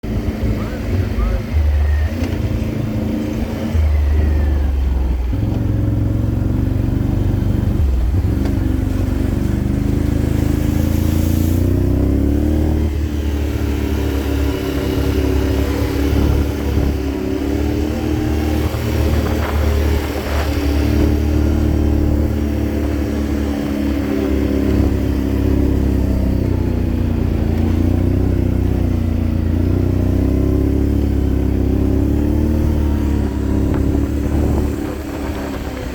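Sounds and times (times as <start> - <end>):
off-road vehicle engine revving: 0.0 - 35.9.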